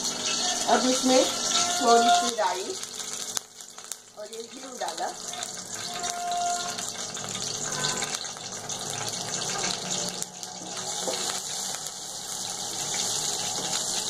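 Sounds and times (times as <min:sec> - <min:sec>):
hot oil sizzling: 0:00.0 - 0:14.0
seeds crackling in oil: 0:00.1 - 0:14.0.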